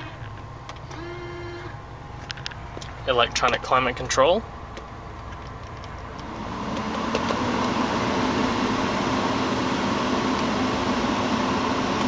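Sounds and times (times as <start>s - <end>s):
blower fan rushing air: 0.0s - 12.0s.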